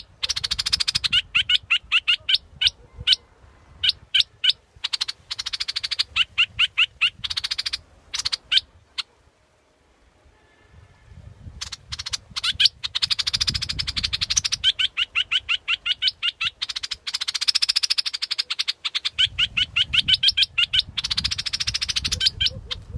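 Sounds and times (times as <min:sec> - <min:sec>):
bulbul chattering trills: 0:00.0 - 0:03.2, 0:03.8 - 0:09.1, 0:11.6 - 0:22.9.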